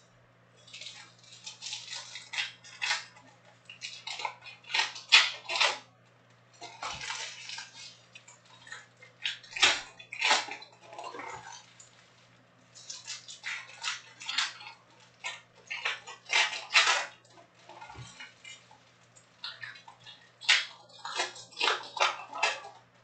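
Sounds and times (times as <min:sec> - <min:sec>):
card pack wrappers crinkling and tearing: 0:00.6 - 0:05.8, 0:06.6 - 0:22.9.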